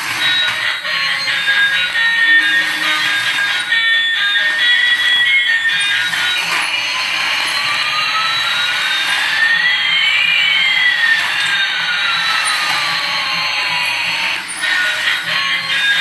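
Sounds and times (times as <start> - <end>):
whistling tones rising and falling: 0.0 - 16.0.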